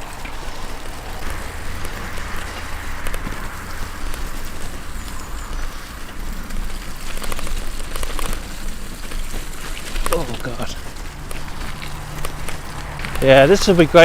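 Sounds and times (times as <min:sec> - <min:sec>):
bicycle tyres on muddy trail: 0:00.0 - 0:14.0
wind rumbling on microphone: 0:00.0 - 0:14.0.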